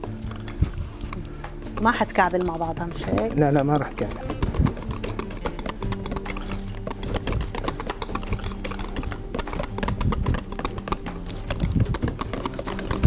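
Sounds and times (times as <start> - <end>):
whisk clicking against metal bowl: 1.7 - 13.0.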